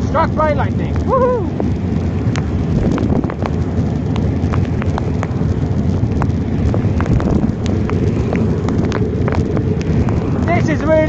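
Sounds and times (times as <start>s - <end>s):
raindrops striking microphone: 0.0s - 11.0s
wind rumble on microphone: 0.0s - 11.0s.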